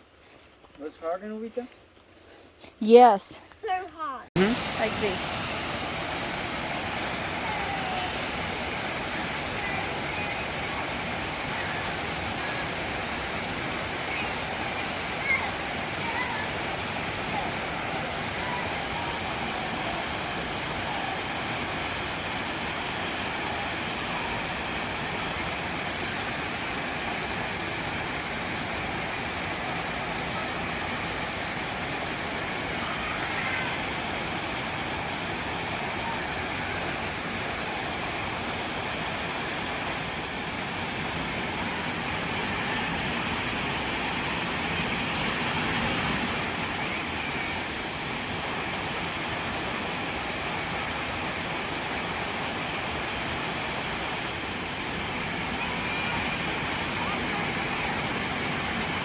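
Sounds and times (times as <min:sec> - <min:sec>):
waterfall roaring: 0:04.3 - 0:59.0.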